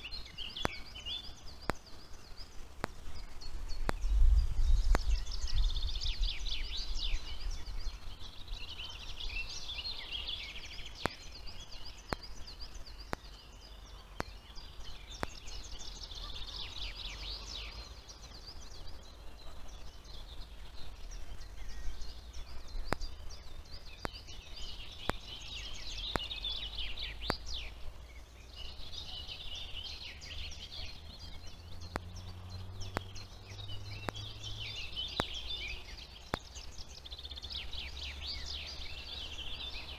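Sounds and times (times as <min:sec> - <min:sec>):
faint clicks: 0:00.0 - 0:39.9
small songbirds singing: 0:00.0 - 0:39.9.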